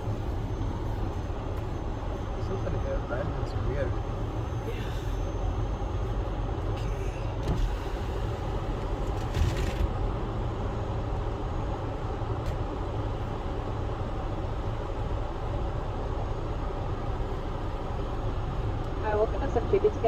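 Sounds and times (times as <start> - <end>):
car interior engine rumble: 0.0 - 20.0.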